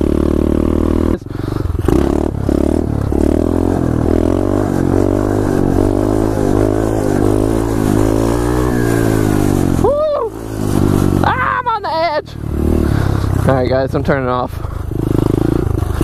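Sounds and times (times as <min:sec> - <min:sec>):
motorbike engine revving hard: 0:00.0 - 0:16.0.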